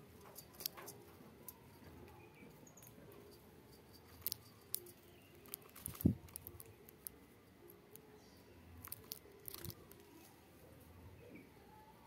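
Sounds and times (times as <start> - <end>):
birds pecking and cracking seed: 0.1 - 10.4.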